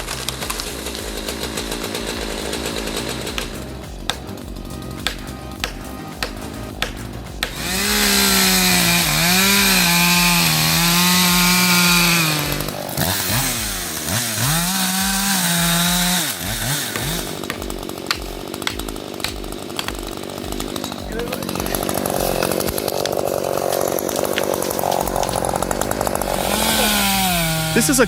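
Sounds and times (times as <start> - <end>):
chainsaw cutting at full throttle: 0.0 - 28.0
chainsaw idling ticking: 0.0 - 28.0.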